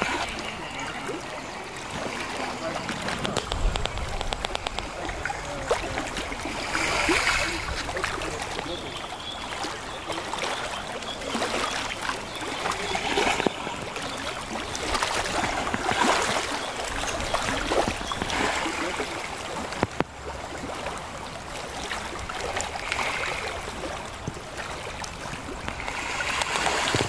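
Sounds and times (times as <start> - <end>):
sea waves lapping: 0.0 - 27.0.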